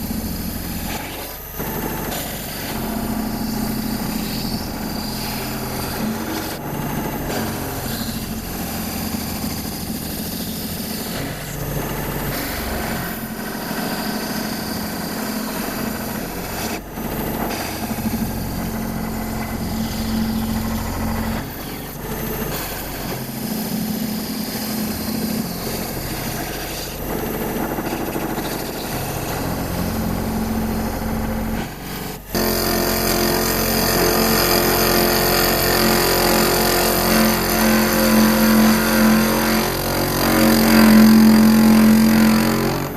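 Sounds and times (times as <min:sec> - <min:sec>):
router spindle cutting metal: 0:00.0 - 0:42.9
vacuum pump running: 0:00.0 - 0:42.9.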